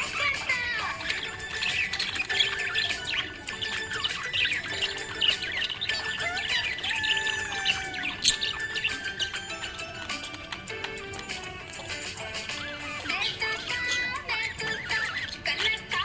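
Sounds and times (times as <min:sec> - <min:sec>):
budgerigar chirping and warbling: 0:00.0 - 0:16.0.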